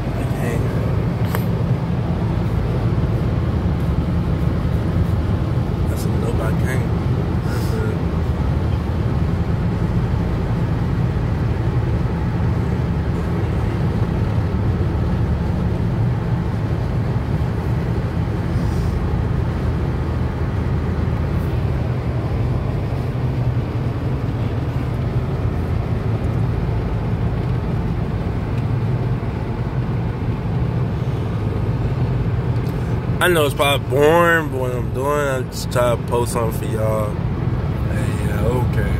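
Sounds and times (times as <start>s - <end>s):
car cabin road and engine rumble: 0.0s - 38.9s.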